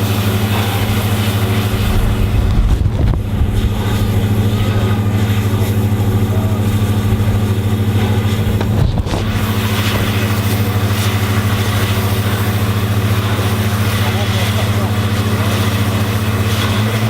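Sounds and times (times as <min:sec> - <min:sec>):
engine idling with low hum: 0:00.0 - 0:17.0.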